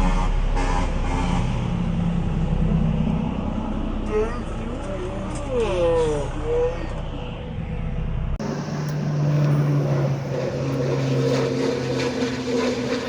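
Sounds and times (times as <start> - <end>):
passing vehicle engine drone: 0.0 - 13.0.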